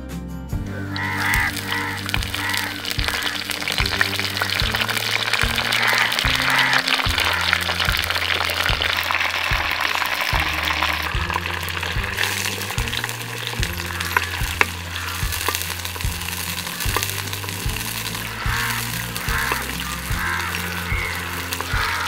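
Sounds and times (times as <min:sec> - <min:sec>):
background music with bass line: 0:00.0 - 0:22.0
food sizzling in a pan: 0:01.0 - 0:22.0.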